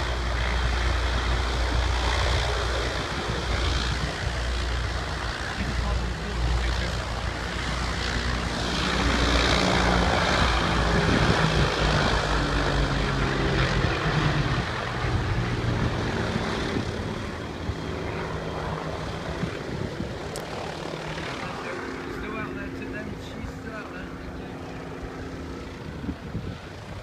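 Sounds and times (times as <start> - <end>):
propeller aircraft passing overhead: 0.0 - 27.0.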